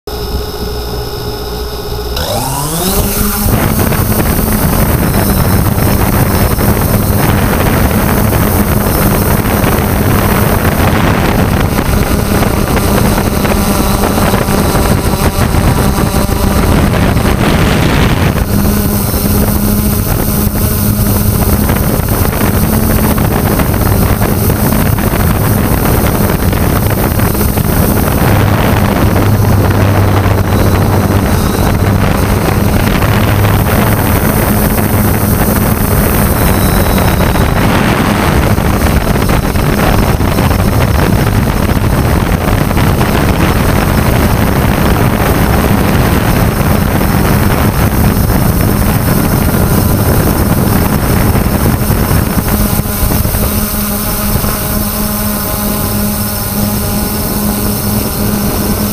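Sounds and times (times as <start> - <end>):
drone propellers whirring: 0.1 - 58.9
wind buffeting microphone: 0.1 - 58.9.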